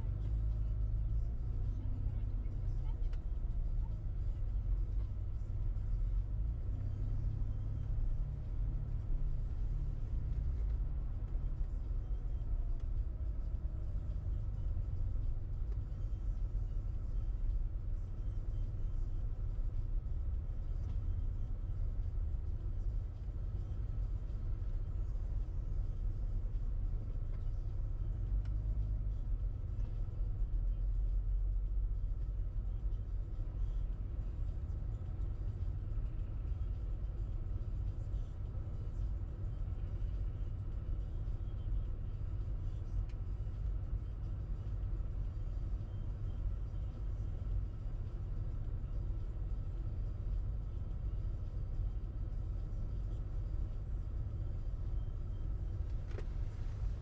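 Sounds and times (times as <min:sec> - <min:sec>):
car engine rumble: 0:00.0 - 0:57.0
road noise: 0:00.0 - 0:57.0.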